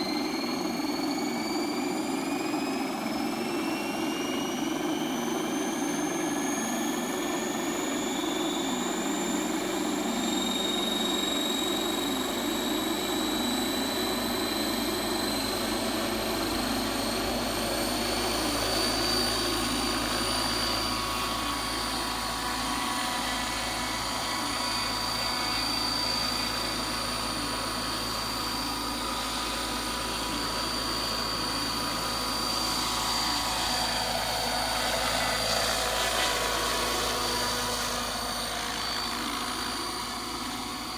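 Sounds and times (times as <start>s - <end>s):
model helicopter whine and rotor: 0.0s - 40.9s.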